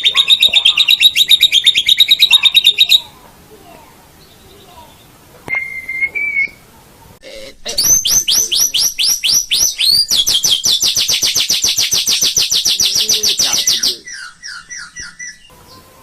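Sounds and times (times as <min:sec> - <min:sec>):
bird singing whistles and trills: 0:00.0 - 0:03.1, 0:04.2 - 0:06.6, 0:07.8 - 0:15.9.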